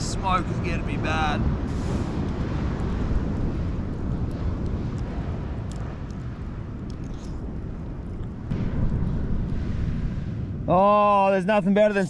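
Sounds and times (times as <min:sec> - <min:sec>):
campfire crackles: 0:00.0 - 0:12.0
wind rumble on microphone: 0:00.0 - 0:12.0.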